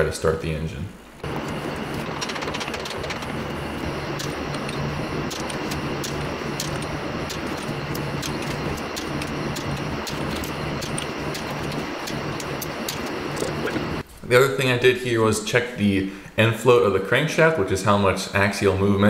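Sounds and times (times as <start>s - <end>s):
workshop hum: 0.0s - 18.8s.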